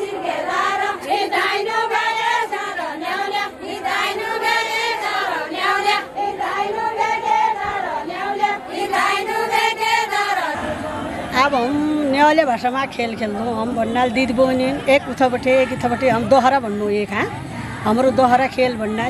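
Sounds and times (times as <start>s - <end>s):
women singing folk song: 0.0s - 16.7s.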